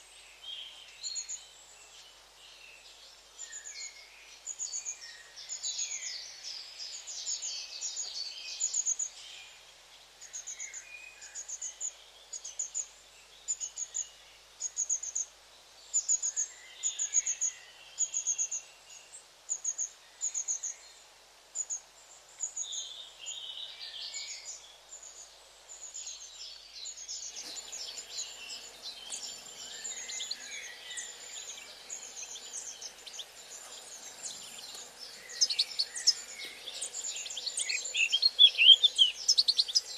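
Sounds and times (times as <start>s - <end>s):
soft hiss: 0.0s - 39.9s
songbirds chirping: 0.0s - 39.9s.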